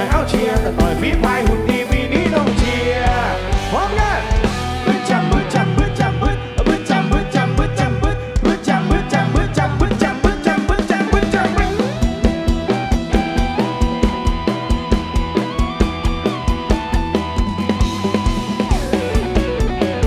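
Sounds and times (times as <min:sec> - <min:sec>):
melodic lead with bending notes: 0:00.0 - 0:08.5, 0:11.1 - 0:20.0
bass: 0:00.0 - 0:20.0
drum kit beat: 0:00.0 - 0:20.0.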